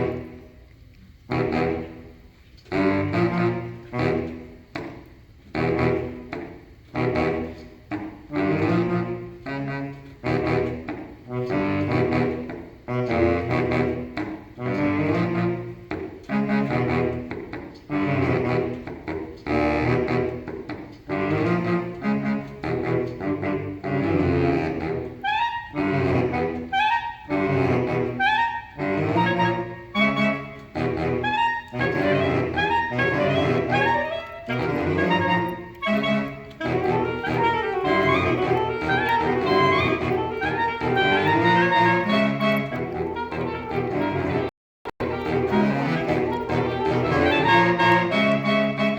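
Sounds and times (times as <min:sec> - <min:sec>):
saxophone quartet playing chords: 0:00.0 - 0:48.9.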